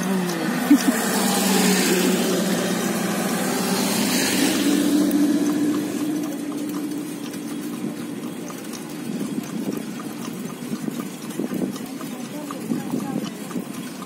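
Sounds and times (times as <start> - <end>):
minivan engine passing: 0.0 - 13.6
pedal rickshaws rumbling and rattling: 0.0 - 14.0.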